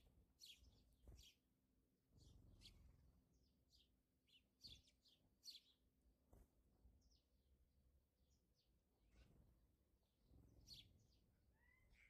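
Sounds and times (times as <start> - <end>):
faint bird chirping: 0.0 - 6.0, 8.2 - 12.0.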